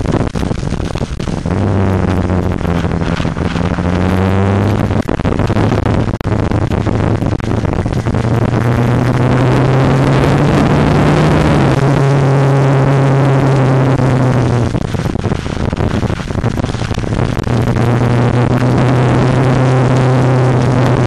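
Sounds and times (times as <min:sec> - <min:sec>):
motorcycle engine running: 0:00.0 - 0:21.0
wind rushing: 0:00.0 - 0:21.0.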